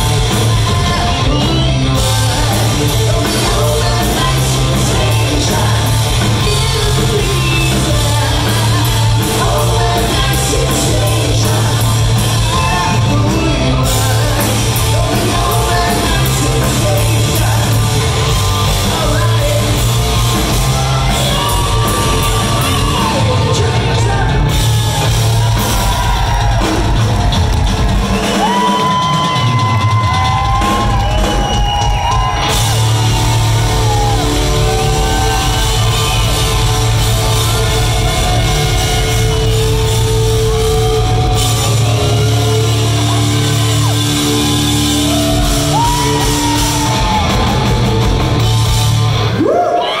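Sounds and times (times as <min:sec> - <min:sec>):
bass guitar: 0:00.0 - 0:50.0
drums: 0:00.0 - 0:50.0
electric guitars: 0:00.0 - 0:50.0.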